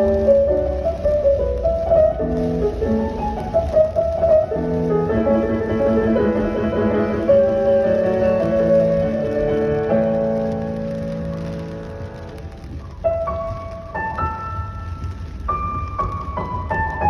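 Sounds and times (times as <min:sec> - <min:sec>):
low steady rumble: 0:00.0 - 0:17.0
piano music: 0:00.0 - 0:17.0.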